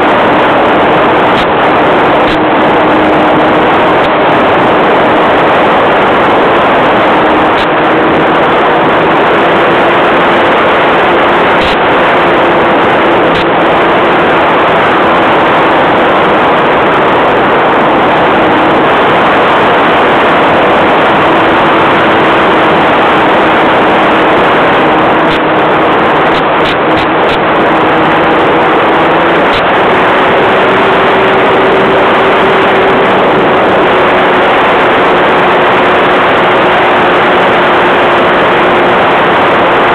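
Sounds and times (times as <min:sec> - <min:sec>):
model airplane engine running: 0:00.0 - 0:39.9
wind rush: 0:00.0 - 0:39.9.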